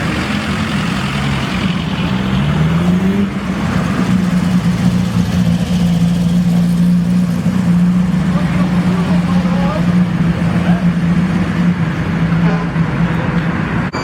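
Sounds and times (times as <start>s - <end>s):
car engine accelerating: 0.0s - 13.9s.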